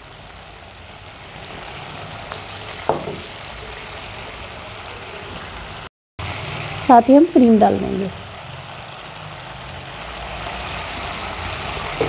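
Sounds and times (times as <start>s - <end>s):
sauce bubbling and sizzling: 0.0s - 12.0s.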